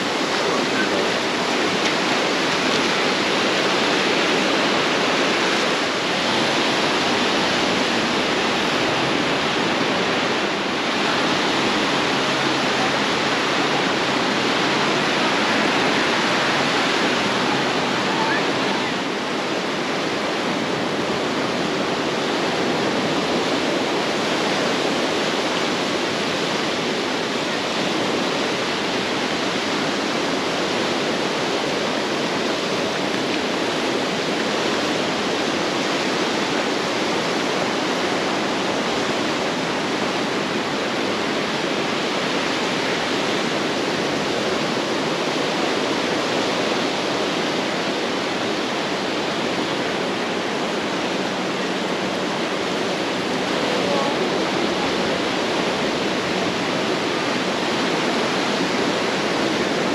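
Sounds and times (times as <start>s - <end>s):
surf rushing on beach: 0.0s - 59.9s.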